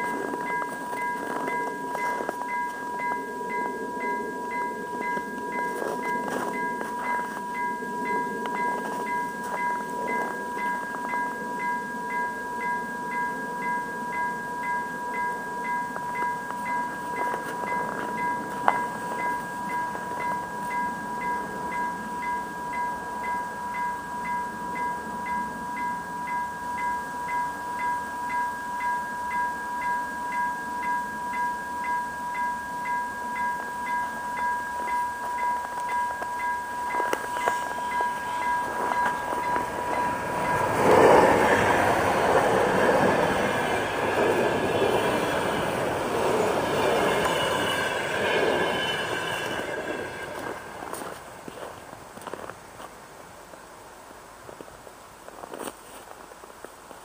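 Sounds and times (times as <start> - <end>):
level-crossing bell ringing: 0.0 - 52.5
electric train approaching: 0.0 - 52.9.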